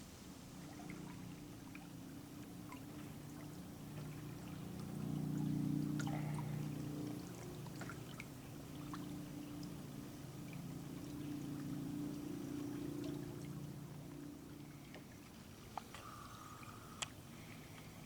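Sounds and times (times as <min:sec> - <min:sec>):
low droning hum: 0:00.1 - 0:18.0
water trickling and dripping: 0:00.5 - 0:18.0
small splashes: 0:02.6 - 0:09.8, 0:10.4 - 0:18.0.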